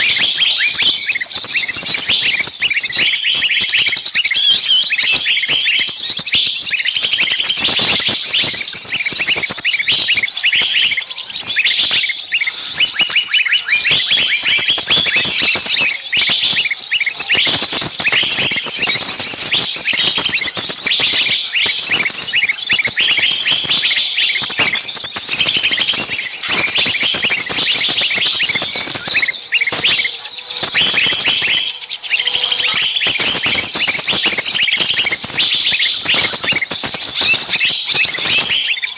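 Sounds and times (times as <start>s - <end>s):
songbirds chirping and scolding: 0.0s - 38.9s.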